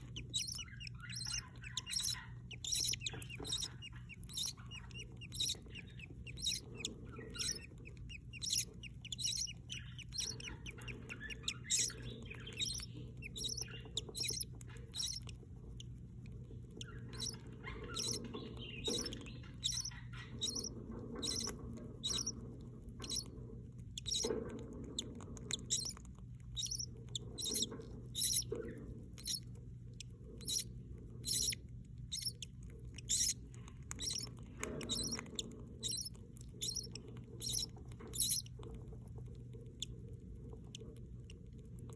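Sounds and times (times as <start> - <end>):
budgerigars chirping: 0.0 - 15.4, 16.7 - 22.4, 23.0 - 29.5, 30.4 - 38.6
soft bird chattering: 0.0 - 38.8
low steady hum: 0.0 - 41.9.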